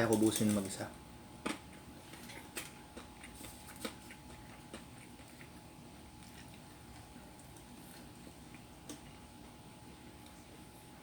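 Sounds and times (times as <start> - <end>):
person chewing food: 1.4 - 10.9.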